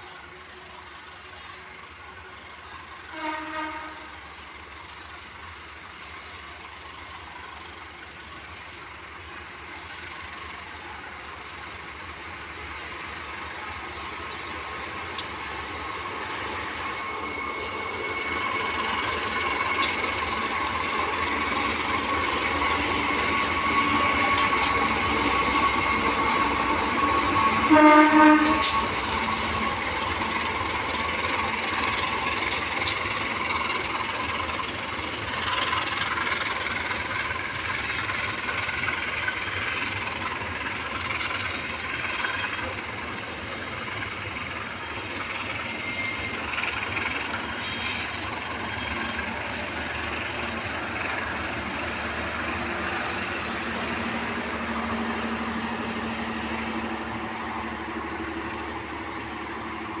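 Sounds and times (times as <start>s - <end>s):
diesel locomotive rolling: 0.0s - 60.0s
wheel and rail noise: 3.9s - 60.0s.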